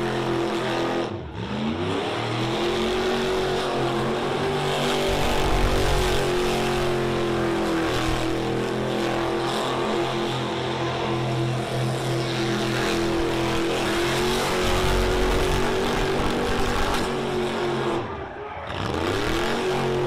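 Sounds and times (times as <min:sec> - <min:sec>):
engine revving high: 0:00.0 - 0:20.0.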